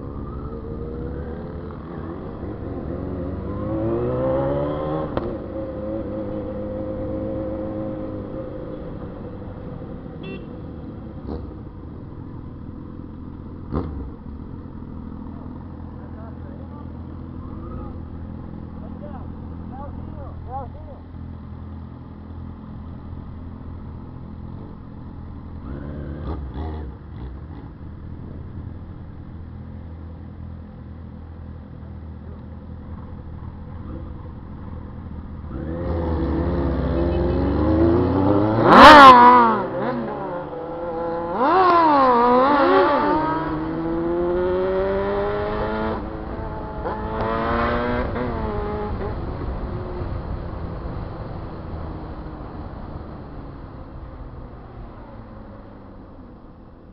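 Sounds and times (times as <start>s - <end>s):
motorcycle engines idling and revving: 0.0s - 56.9s.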